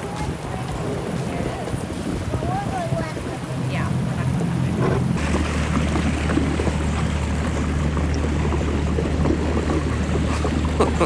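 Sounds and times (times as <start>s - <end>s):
boat motor droning: 0.0s - 11.0s
rush of wind and water: 0.0s - 11.0s.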